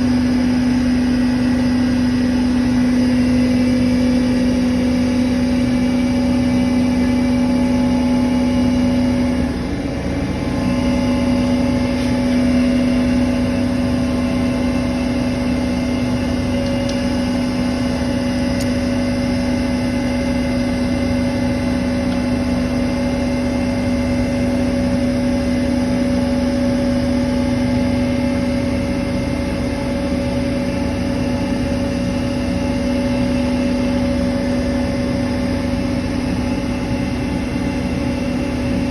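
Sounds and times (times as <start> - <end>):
refrigeration compressor humming: 0.0 - 38.9.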